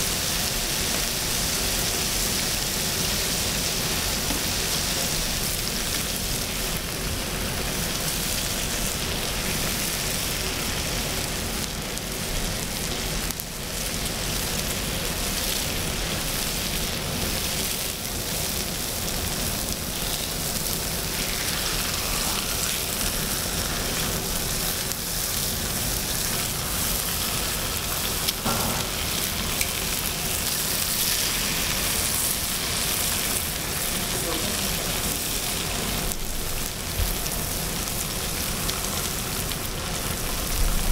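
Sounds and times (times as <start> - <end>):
meat sizzling on a griddle: 0.0 - 40.9.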